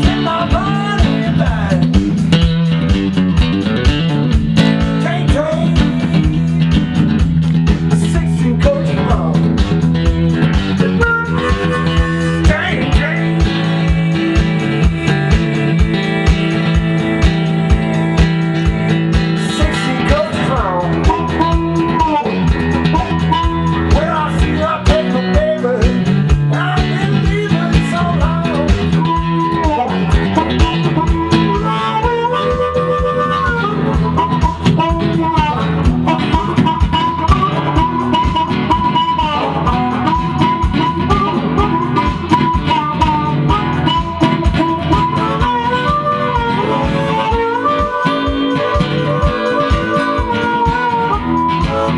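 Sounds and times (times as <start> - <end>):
blues harmonica: 0.0 - 51.9
strummed acoustic guitar: 0.0 - 51.9.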